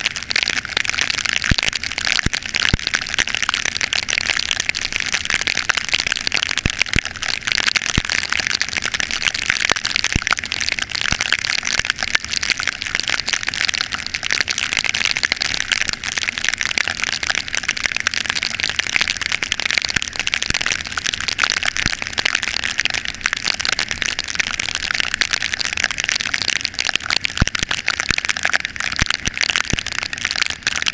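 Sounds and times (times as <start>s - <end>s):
heavy rain: 0.0s - 30.9s.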